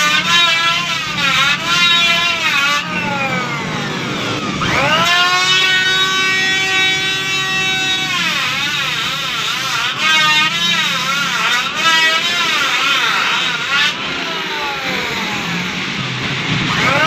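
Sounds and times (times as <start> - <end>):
small motor whining: 0.0 - 17.0.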